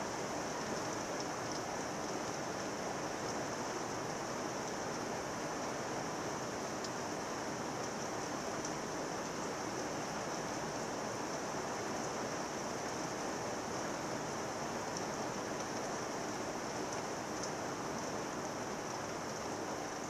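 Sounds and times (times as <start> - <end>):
heavy rain downpour: 0.0 - 20.0.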